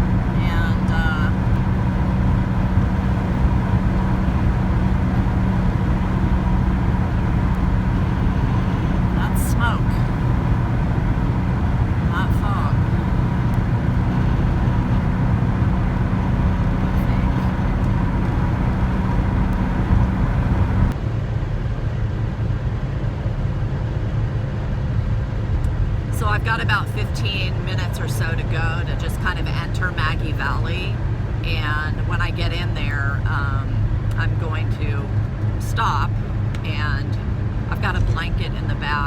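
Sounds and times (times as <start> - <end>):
engine droning inside vehicle: 0.0 - 39.0
road and wind noise: 0.0 - 39.0.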